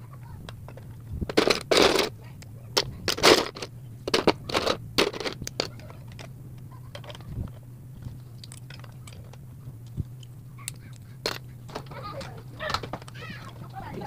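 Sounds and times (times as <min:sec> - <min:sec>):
low steady hum: 0:00.0 - 0:14.0
plastic bricks clicking: 0:00.5 - 0:02.2, 0:02.8 - 0:13.7.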